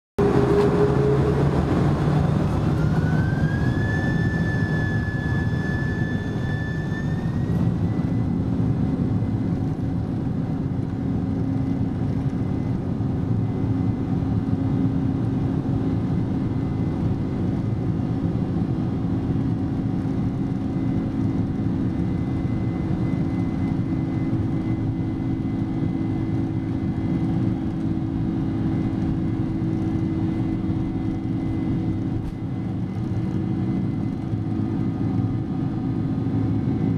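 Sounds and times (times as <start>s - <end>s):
jet engine roar: 0.2s - 36.9s
jet engine whine: 0.2s - 36.9s.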